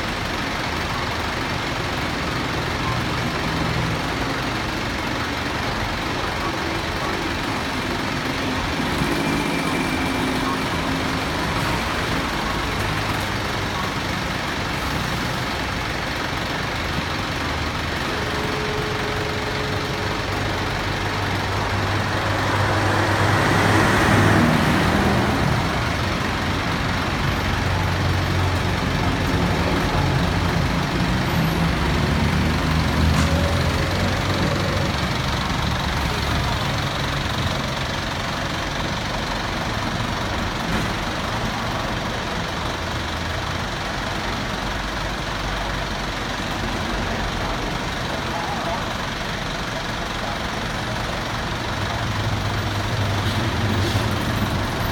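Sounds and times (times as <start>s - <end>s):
large vehicle engine running: 0.0s - 54.9s.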